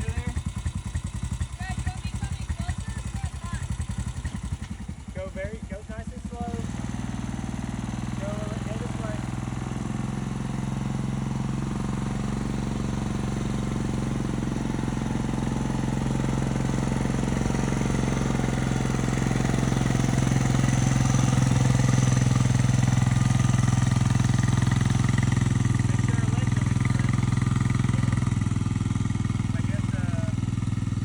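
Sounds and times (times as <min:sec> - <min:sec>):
vehicle engine running at low speed: 0:00.0 - 0:31.0.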